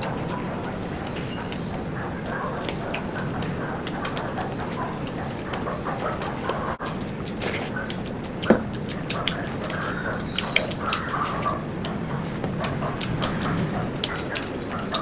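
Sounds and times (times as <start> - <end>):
mouth clicks: 0.0 - 15.0
wet chewing: 0.0 - 15.0.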